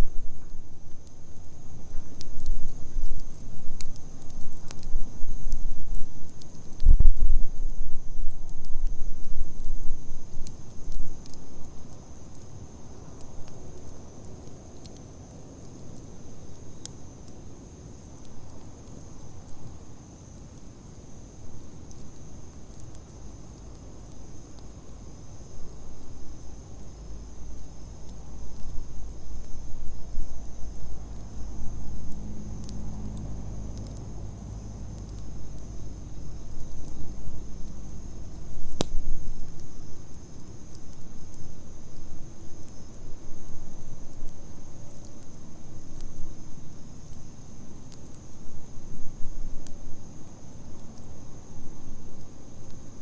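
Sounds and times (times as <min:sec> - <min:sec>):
campfire crackling: 0:00.0 - 0:53.0
crickets chirping: 0:00.0 - 0:53.0.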